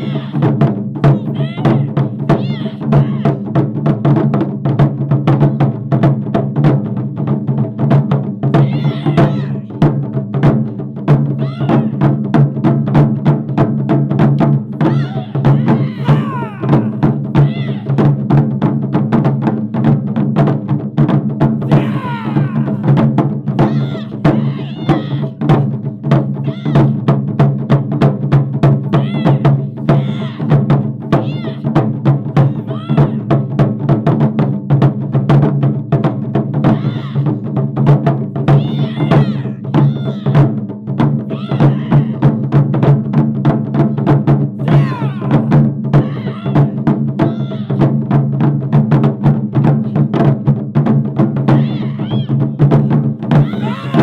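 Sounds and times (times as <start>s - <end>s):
taiko drum ensemble: 0.0s - 54.0s.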